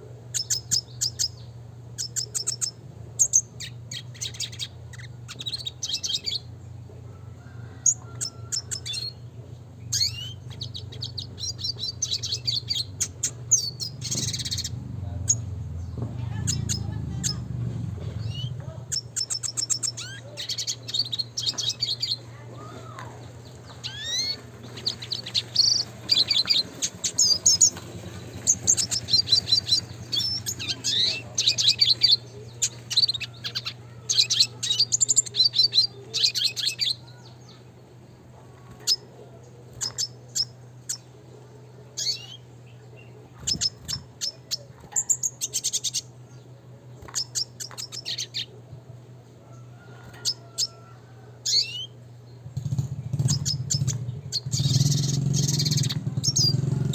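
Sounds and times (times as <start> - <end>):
bird twittering song: 0.0 - 17.6, 18.2 - 48.6, 49.5 - 56.9
steady low hum: 0.0 - 56.9.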